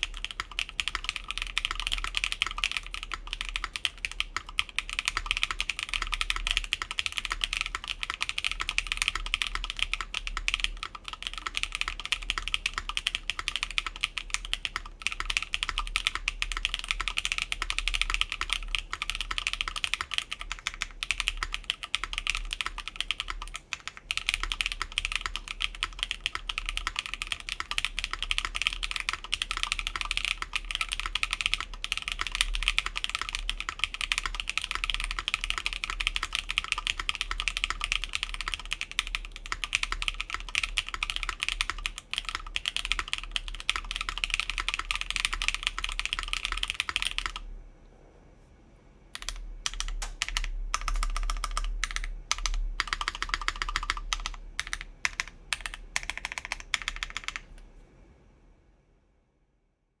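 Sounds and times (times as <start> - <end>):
fast typing on mechanical keyboard: 0.0 - 47.4, 49.2 - 57.6.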